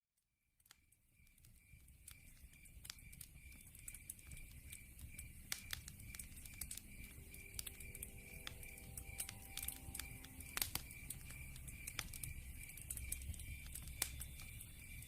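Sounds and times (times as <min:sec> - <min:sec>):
log fire crackling and popping: 0:00.6 - 0:15.0
night insect chirping: 0:01.2 - 0:15.0.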